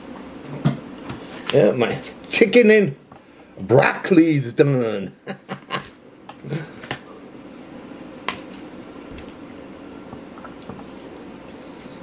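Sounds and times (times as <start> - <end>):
faint steady low hum: 0.0 - 12.0.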